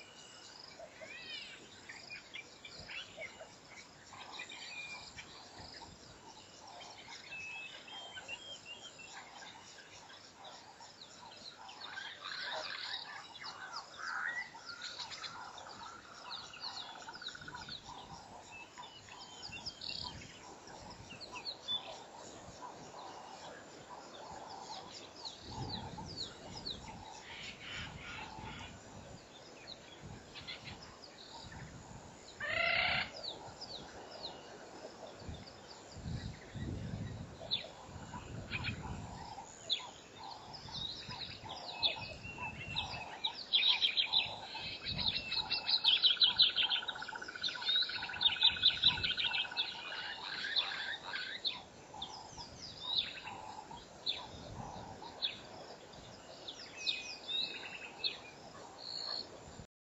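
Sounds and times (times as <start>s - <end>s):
birds chirping and calling: 0.0s - 31.8s, 32.4s - 34.5s, 35.1s - 59.3s.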